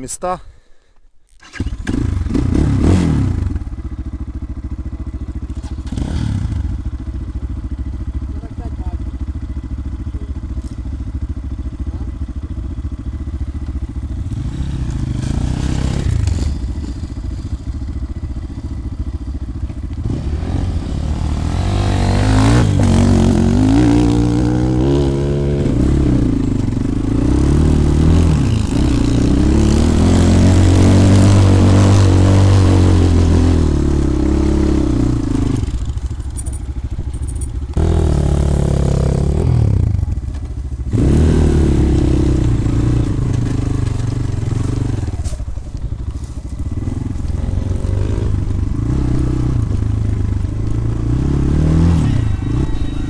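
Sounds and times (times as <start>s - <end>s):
dirt bike engine revving: 1.4s - 53.0s.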